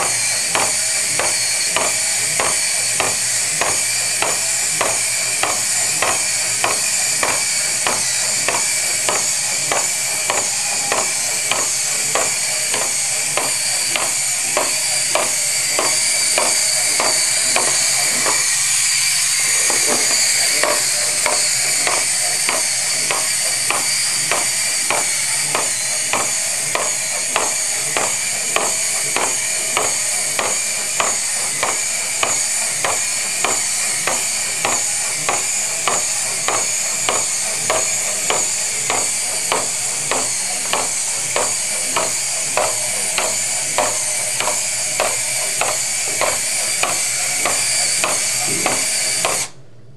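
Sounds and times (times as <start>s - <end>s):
robot feet tapping table: 0.0s - 49.5s
robot servos whining: 0.0s - 49.6s.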